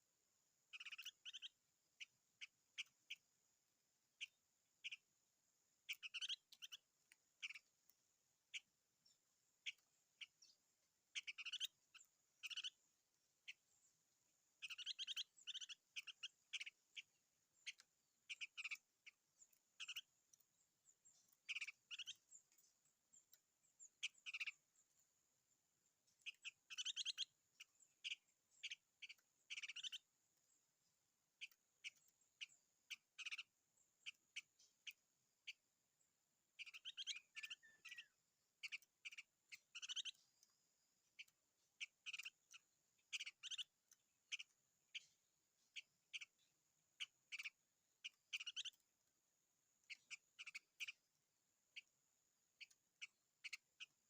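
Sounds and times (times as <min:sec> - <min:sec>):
songbird clicking chirps: 0:00.7 - 0:03.3, 0:04.2 - 0:05.1, 0:05.8 - 0:49.1, 0:49.8 - 0:54.0.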